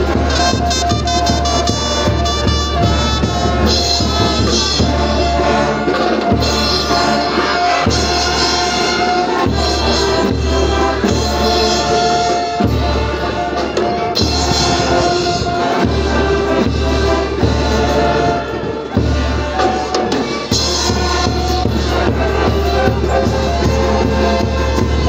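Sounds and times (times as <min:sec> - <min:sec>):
marching band brass playing: 0:00.0 - 0:25.0.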